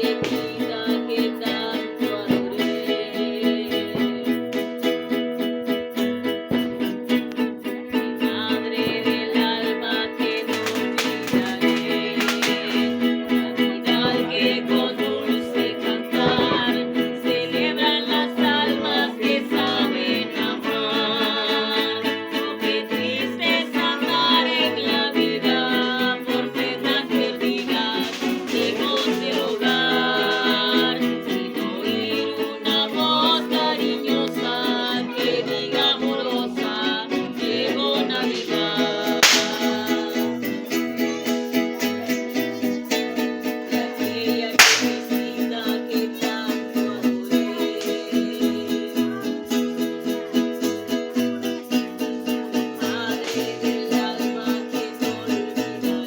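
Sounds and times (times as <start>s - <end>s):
string band playing: 0.0s - 56.0s.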